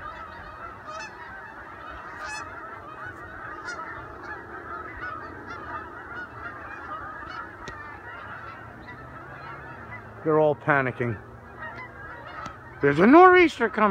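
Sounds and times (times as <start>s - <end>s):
geese honking: 0.0s - 13.9s.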